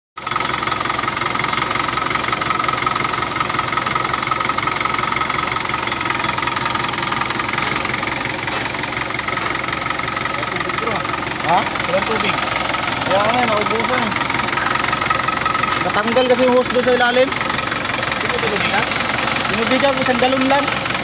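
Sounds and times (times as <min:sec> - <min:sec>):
engine idling: 0:00.2 - 0:21.0.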